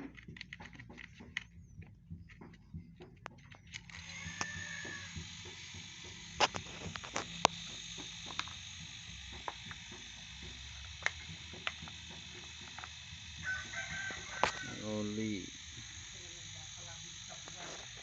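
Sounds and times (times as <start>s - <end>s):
compressor pump humming: 0.0s - 18.0s
sharp clicks: 0.0s - 18.0s.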